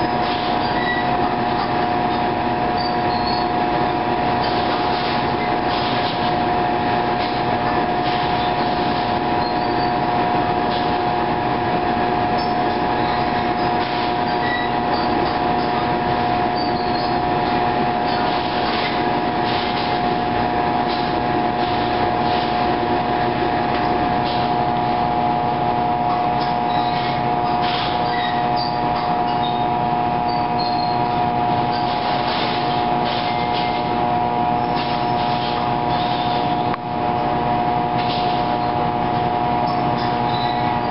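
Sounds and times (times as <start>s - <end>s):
machine drone with high whine: 0.0s - 40.9s.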